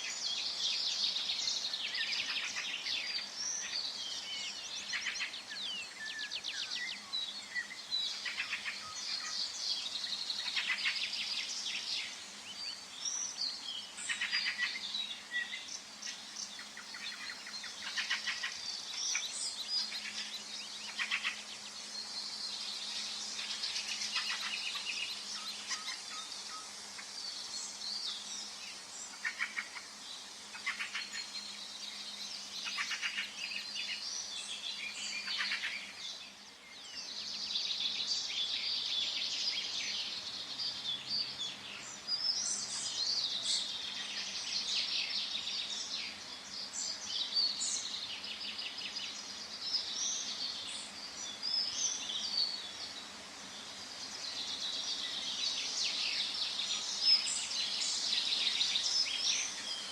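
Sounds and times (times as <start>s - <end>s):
faint background hiss: 0.0s - 59.9s
songbirds singing: 0.0s - 59.9s.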